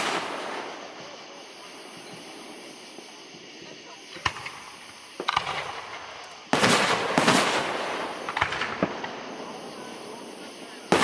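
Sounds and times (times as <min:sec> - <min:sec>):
sharp firework cracks: 0:00.0 - 0:03.2, 0:04.0 - 0:11.0
fireworks booms echoing: 0:00.0 - 0:11.0
fireworks crackling: 0:00.0 - 0:11.0.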